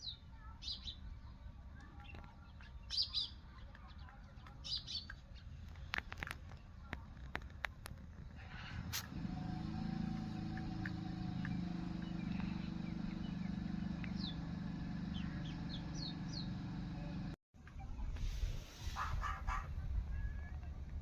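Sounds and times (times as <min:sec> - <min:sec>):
small birds chirping: 0:00.0 - 0:17.3.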